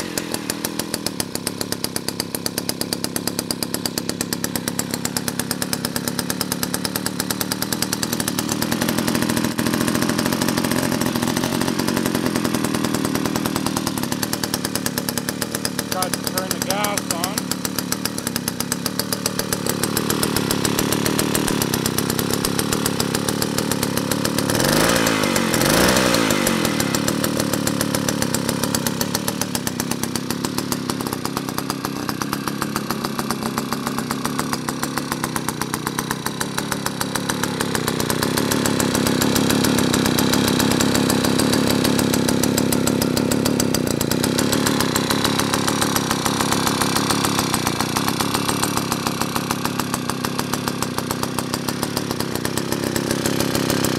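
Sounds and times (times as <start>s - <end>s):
chainsaw engine idling and revving: 0.0s - 53.9s.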